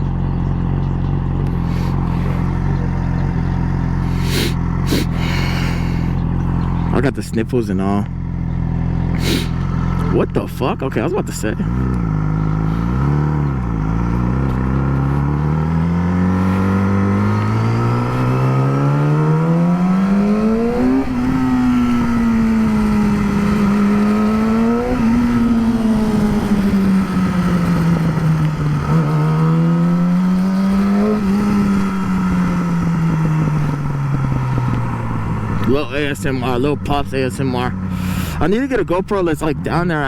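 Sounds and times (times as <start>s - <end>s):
exhaust popping: 0.0s - 40.0s
motorcycle engine revving: 0.0s - 40.0s.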